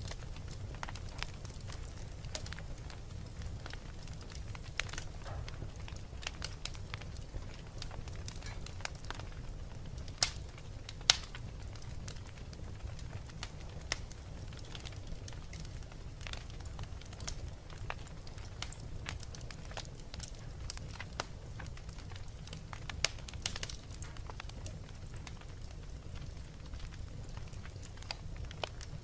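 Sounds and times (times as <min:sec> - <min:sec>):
fire crackling: 0:00.0 - 0:29.0
low rumble of fire: 0:00.0 - 0:29.0
sharp popping of fire: 0:00.0 - 0:29.0.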